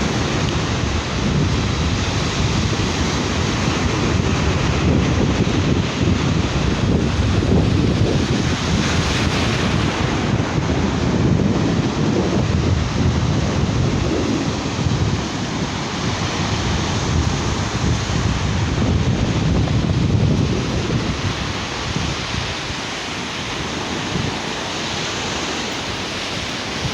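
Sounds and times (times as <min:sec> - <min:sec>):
sea surf washing onto beach: 0:00.0 - 0:26.9
wind buffeting microphone: 0:00.0 - 0:26.9.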